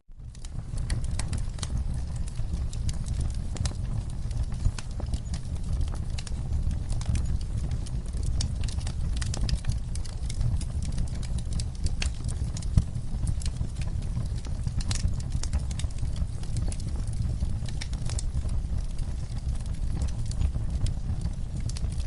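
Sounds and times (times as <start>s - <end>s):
fire popping and snapping: 0.1s - 22.0s
low rumble of flames: 0.1s - 22.0s
wood fire crackling: 0.1s - 22.0s.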